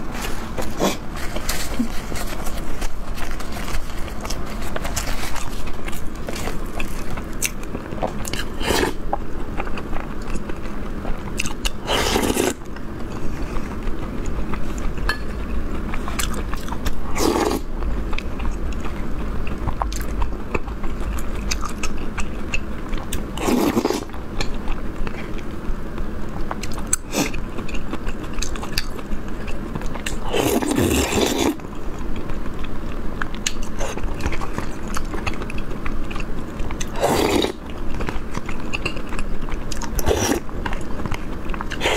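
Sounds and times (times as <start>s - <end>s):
close chewing and biting food: 0.0s - 41.9s.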